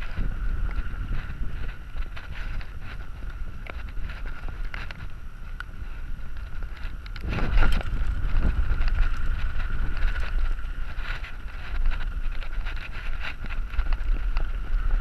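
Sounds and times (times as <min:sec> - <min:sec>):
bike clicks and rattles: 0:00.0 - 0:15.0
bike rumbling: 0:00.0 - 0:15.0
wind buffeting microphone: 0:00.0 - 0:15.0.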